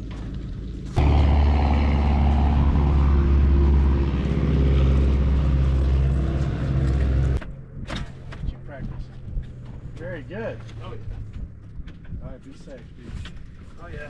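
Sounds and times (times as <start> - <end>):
small aircraft engine humming: 0.3 - 13.8.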